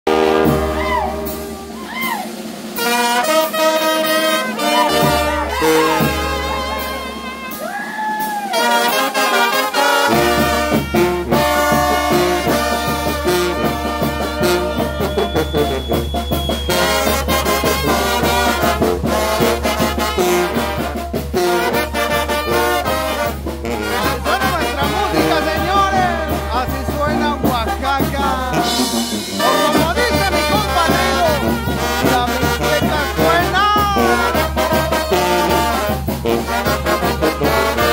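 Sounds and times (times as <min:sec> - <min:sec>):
brass band playing: 0:00.0 - 0:37.9
bass drum with cymbal: 0:00.1 - 0:09.2, 0:10.0 - 0:37.9.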